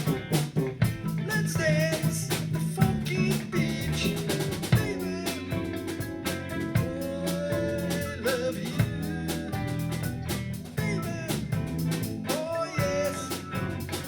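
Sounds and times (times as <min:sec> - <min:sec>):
bass drum: 0:00.0 - 0:14.0
bass line: 0:00.0 - 0:14.0
lead melody: 0:00.0 - 0:14.0
rock band playing: 0:00.0 - 0:14.0.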